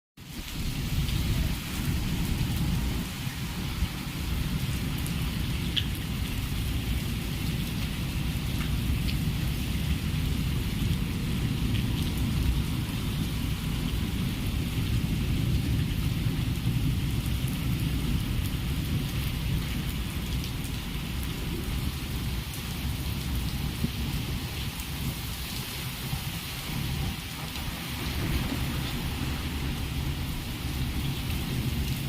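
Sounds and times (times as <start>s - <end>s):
heavy rain pouring: 0.2s - 32.0s
continuous low rumble: 0.5s - 32.0s.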